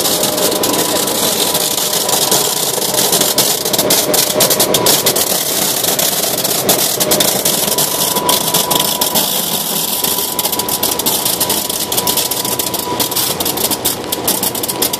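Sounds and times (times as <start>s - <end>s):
machine running with thin tone: 0.0s - 14.9s
rapid irregular clicking: 0.0s - 14.9s.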